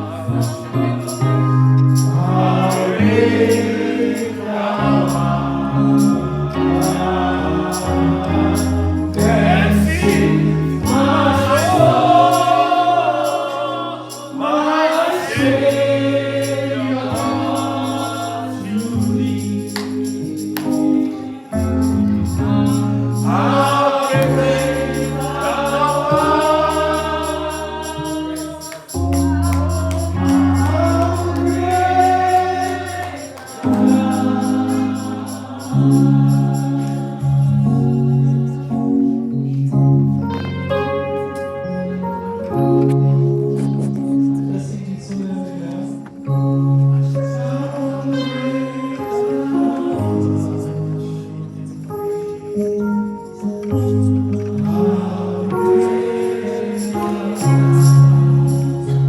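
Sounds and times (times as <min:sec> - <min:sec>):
gospel singing: 0:00.0 - 0:39.6, 0:43.6 - 0:59.0.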